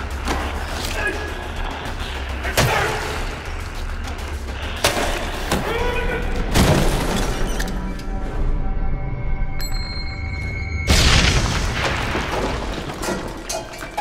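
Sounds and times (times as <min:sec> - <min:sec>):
low background music: 0:00.0 - 0:14.0.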